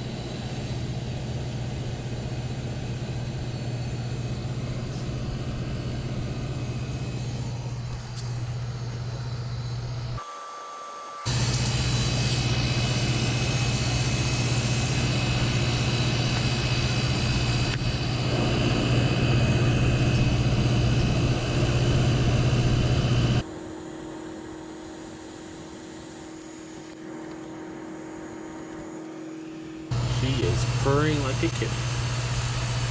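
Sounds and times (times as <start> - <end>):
condenser fan whooshing: 0.0 - 10.2, 11.2 - 32.9
compressor humming: 0.0 - 32.9.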